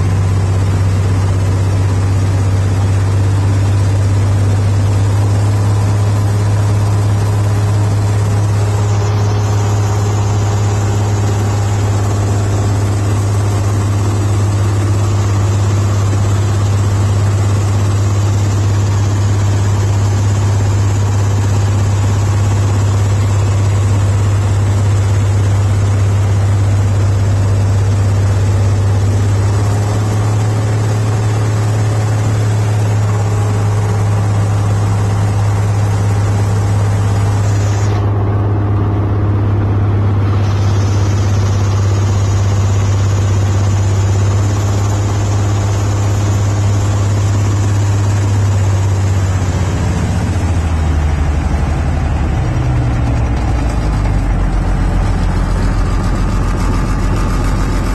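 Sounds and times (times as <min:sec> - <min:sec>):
aircraft engine running: 0:00.0 - 0:57.9.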